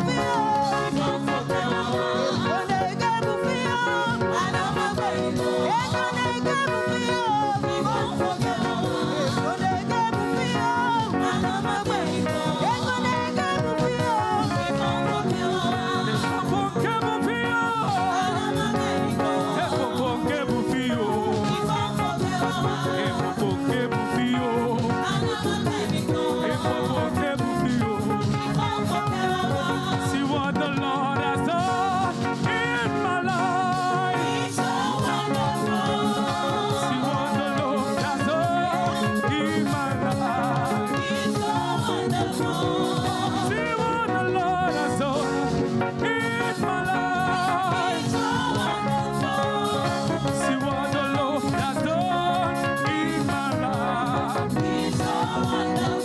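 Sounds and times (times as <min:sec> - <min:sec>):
choir and band playing: 0:00.0 - 0:56.0
person singing: 0:00.0 - 0:56.0.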